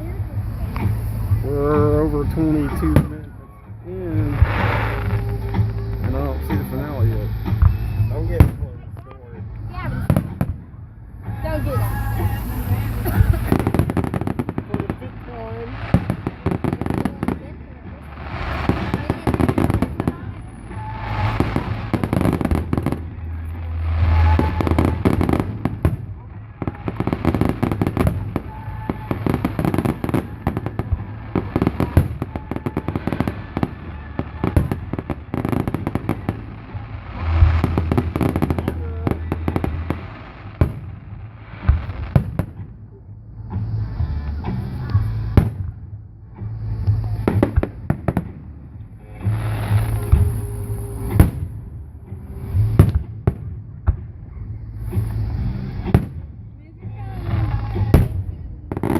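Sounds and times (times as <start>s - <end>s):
fireworks bangs and crackling: 0.0s - 58.9s.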